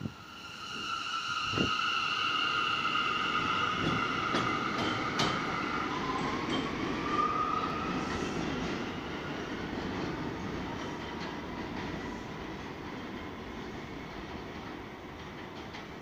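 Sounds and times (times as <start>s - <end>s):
subway train whine: 0.0s - 16.0s.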